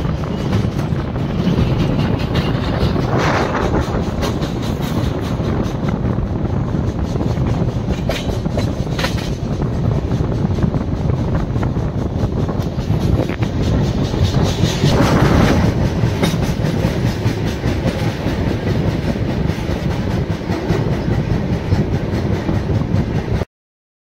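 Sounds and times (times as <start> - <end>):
clickety-clack over rail joints: 0.0 - 23.5
train wheels rumbling: 0.0 - 23.5.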